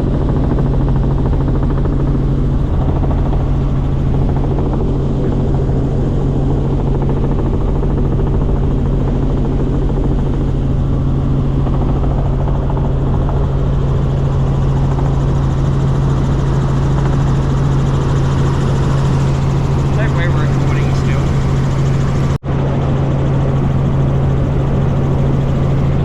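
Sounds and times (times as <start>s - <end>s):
helicopter rotor drone: 0.0s - 26.0s.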